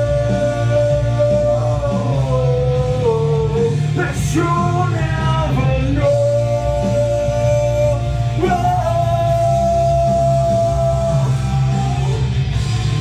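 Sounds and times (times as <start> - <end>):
man singing long notes: 0.0 - 12.3
rock backing track: 0.0 - 13.0.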